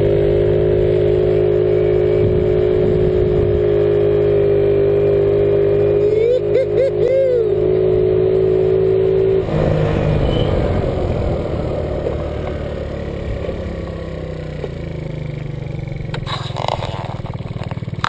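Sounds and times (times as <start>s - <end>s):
motor scooter engine running: 0.0s - 18.0s.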